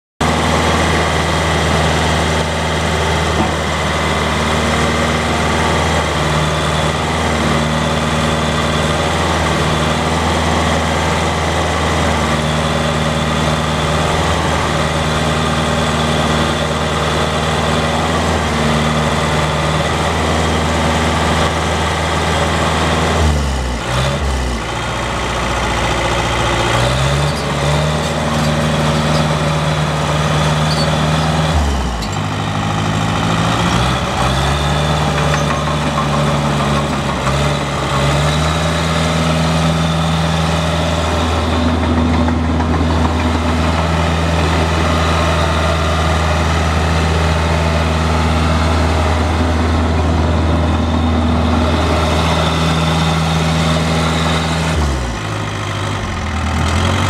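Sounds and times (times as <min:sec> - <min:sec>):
dozer diesel engine running: 0:00.2 - 0:57.0.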